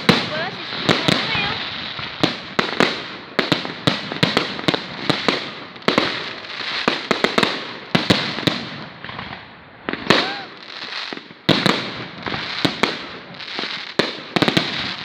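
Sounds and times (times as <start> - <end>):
crackling hiss: 0.0 - 15.0
firework bangs and cracks: 0.0 - 15.0.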